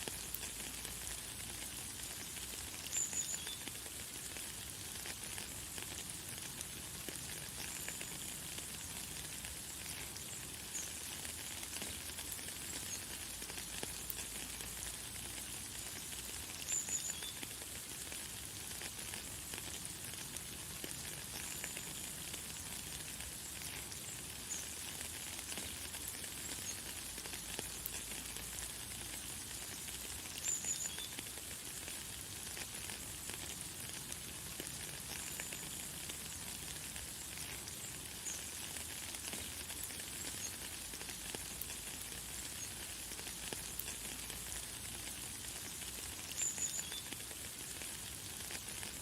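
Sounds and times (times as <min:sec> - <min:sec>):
light rain hiss: 0:00.0 - 0:49.0.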